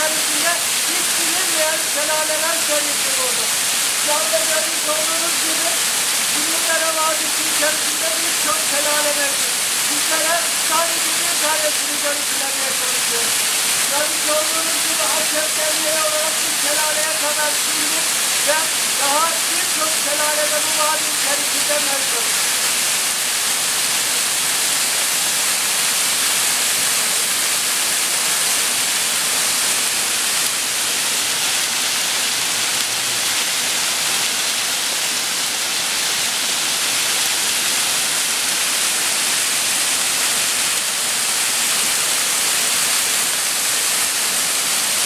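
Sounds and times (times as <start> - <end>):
waterfall hissing: 0.0 - 45.0.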